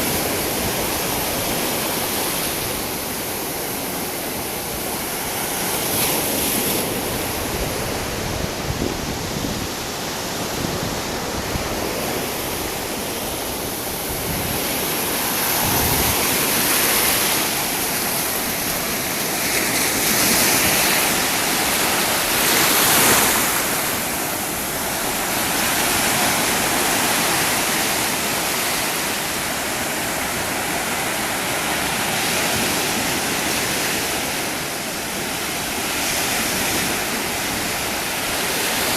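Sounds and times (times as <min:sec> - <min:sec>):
waves breaking: 0:00.0 - 0:38.9.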